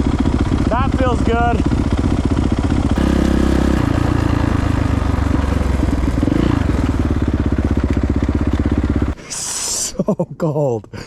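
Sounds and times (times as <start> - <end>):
dirt bike engine idling: 0.0 - 9.2.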